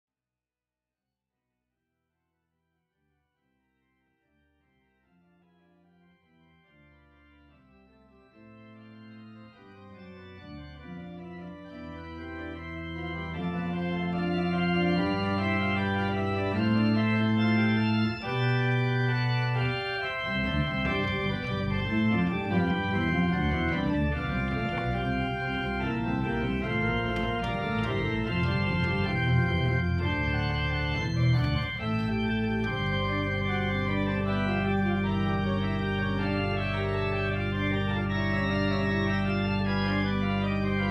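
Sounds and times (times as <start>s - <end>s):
pipe organ music: 4.4s - 40.9s.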